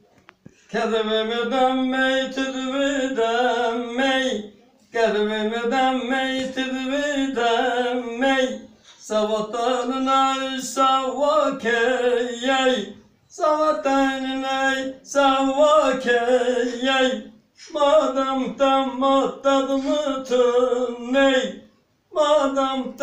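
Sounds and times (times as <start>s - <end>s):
two men singing unaccompanied: 0.7s - 23.0s.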